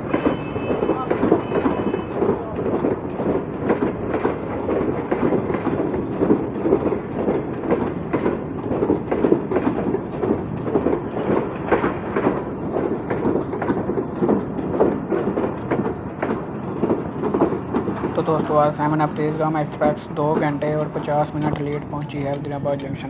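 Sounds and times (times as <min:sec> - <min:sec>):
train coaches rumbling: 0:00.0 - 0:23.0
wheels clacking over rail joints: 0:00.0 - 0:23.0.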